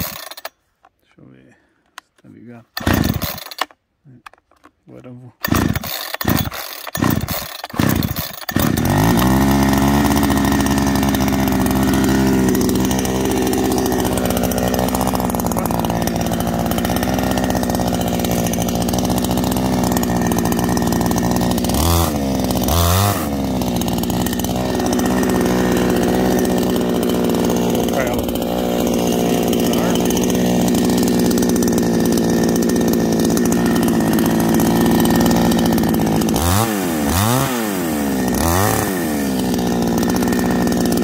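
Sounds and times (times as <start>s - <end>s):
chainsaw starting and revving: 0.0s - 0.7s, 2.4s - 4.4s, 5.3s - 41.0s.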